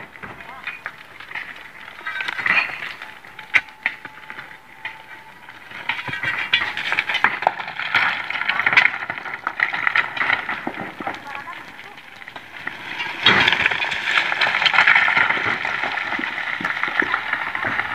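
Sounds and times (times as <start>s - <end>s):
gravel clattering and rattling: 0.0s - 17.9s.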